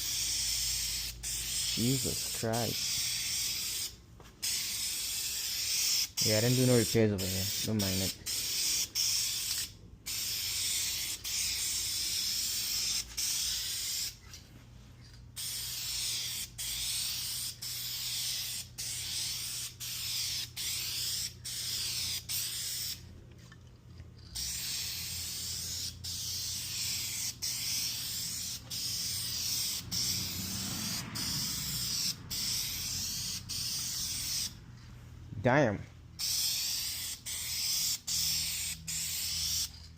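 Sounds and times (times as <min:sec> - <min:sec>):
aerosol spray can spraying: 0:00.0 - 0:14.2, 0:15.4 - 0:23.0, 0:24.4 - 0:34.6, 0:36.2 - 0:39.9.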